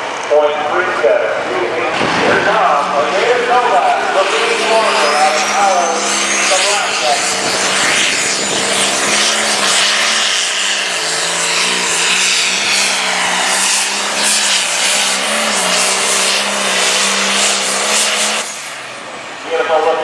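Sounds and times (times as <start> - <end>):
diesel tractor engine at full throttle: 0.0 - 20.0.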